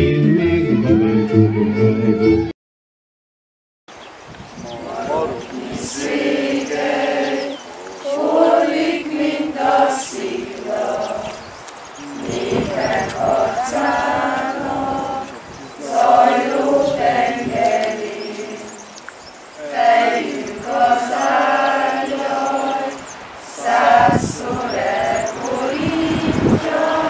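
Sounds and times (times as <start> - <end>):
group singing unaccompanied: 4.6 - 27.0.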